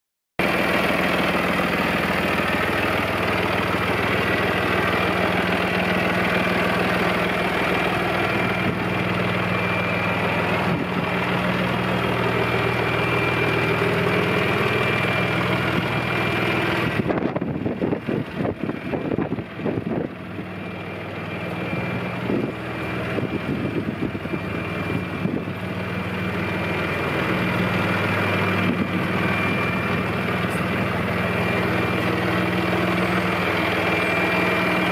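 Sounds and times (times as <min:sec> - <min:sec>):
tractor diesel engine idling: 0:00.4 - 0:34.9.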